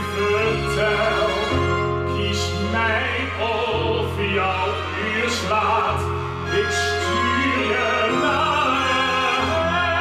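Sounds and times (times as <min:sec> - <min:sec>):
piano: 0:00.0 - 0:10.0.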